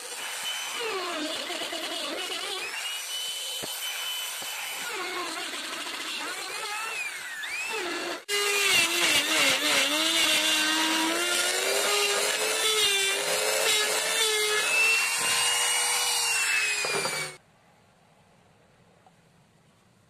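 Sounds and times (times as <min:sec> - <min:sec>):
electric router cutting wood: 0:00.0 - 0:17.4.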